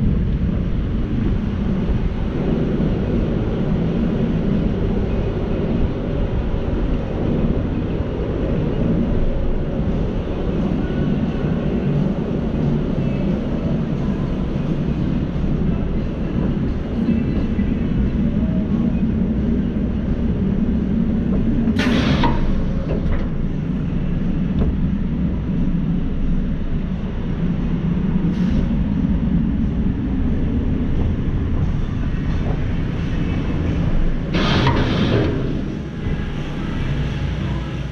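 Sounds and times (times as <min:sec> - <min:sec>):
roller coaster wheels rumbling: 0:00.0 - 0:37.9.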